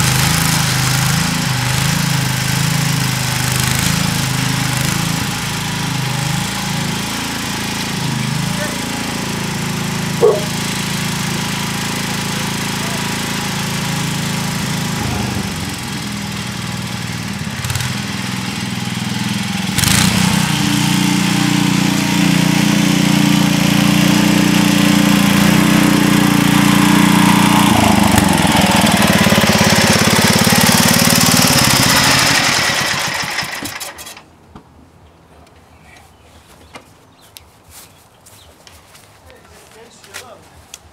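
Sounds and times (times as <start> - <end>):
garden tractor engine running: 0.0 - 34.3.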